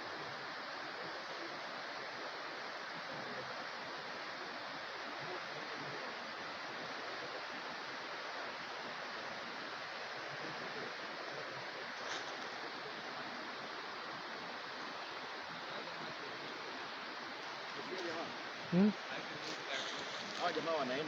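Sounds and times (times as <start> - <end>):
stream flowing over rocks: 0.0 - 21.0.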